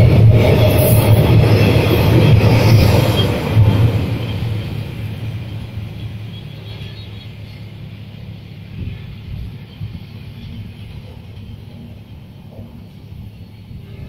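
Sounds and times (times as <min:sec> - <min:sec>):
train coaches rumbling on rails: 0:00.0 - 0:14.0.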